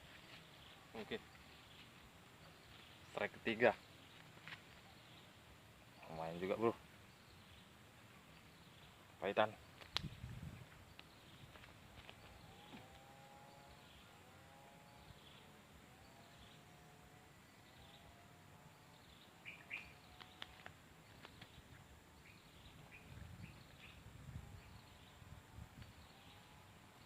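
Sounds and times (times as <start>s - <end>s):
bird calling: 0.0s - 16.9s, 18.8s - 24.0s
bird chirps: 0.0s - 27.0s.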